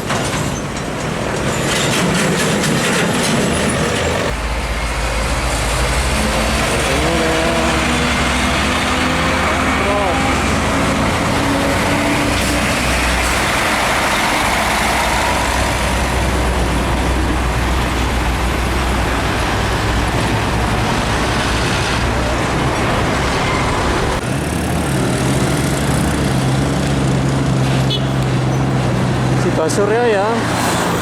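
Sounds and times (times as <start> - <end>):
diesel truck engines: 0.0 - 31.0
tyres rushing on road: 0.0 - 31.0.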